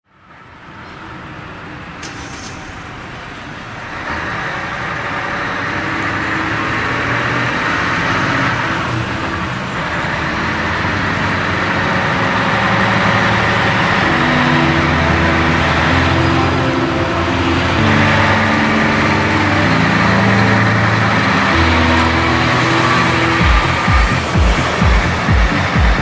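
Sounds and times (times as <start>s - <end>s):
approaching vehicles engine and tyre noise: 0.1s - 26.0s.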